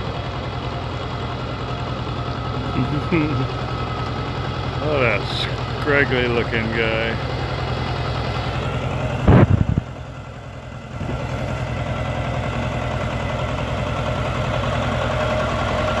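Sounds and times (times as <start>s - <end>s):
tractor engine throbbing: 0.0s - 16.0s.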